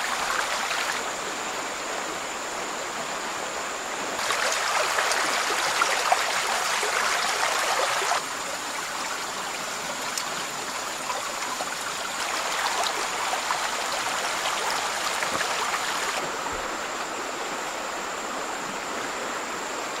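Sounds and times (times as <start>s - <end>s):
stream water rushing over rocks: 0.0s - 20.0s.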